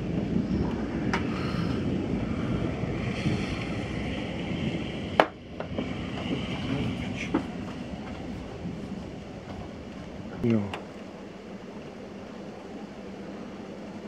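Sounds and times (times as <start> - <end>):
storm wind rumble: 0.0 - 14.0.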